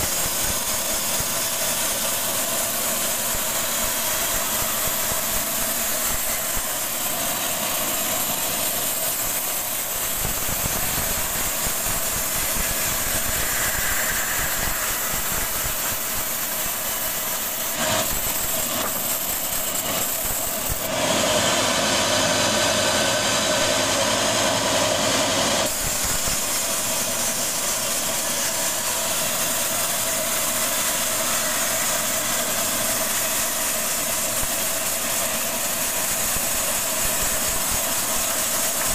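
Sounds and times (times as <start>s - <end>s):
band sawmill sawing log: 0.0s - 38.9s.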